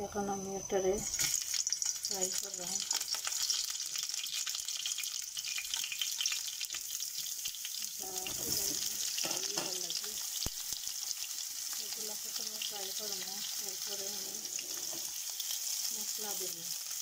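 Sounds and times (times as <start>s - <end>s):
kebabs sizzling in hot oil: 0.0s - 17.0s.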